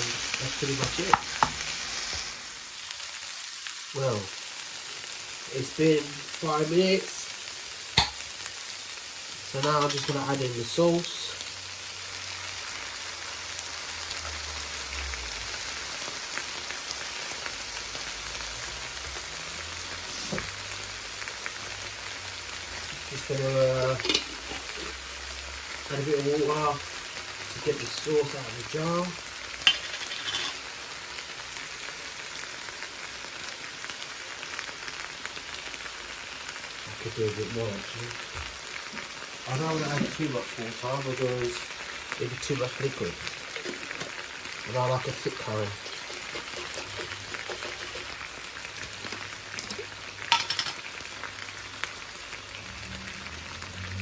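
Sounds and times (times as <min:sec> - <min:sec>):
chicken sizzling in a frying pan: 0:00.0 - 0:54.0.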